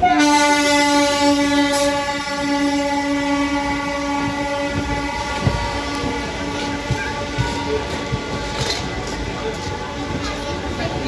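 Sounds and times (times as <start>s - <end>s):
train horn blast: 0.0s - 9.0s
train coaches rumbling and clacking: 0.0s - 11.0s.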